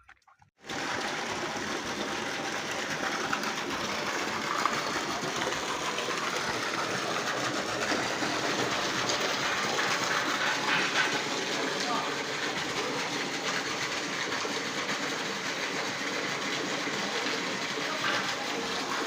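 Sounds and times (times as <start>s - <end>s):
water pump engine running: 0.6s - 19.0s.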